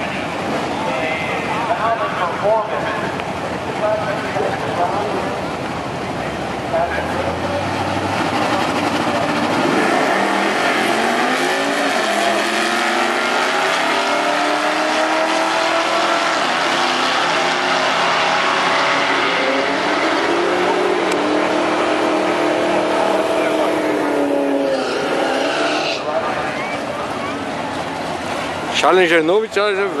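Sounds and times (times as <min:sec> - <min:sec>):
race cars accelerating: 0:00.0 - 0:30.0.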